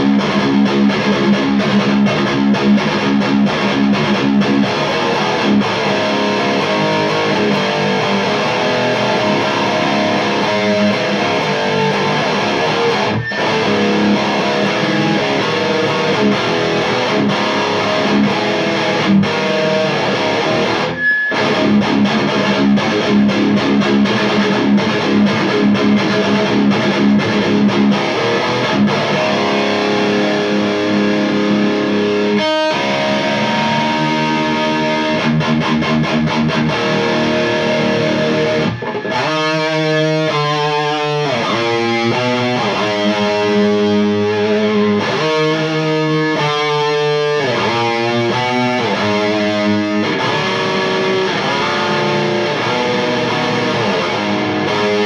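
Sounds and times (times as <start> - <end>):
distorted electric guitar riffing: 0.0 - 55.0.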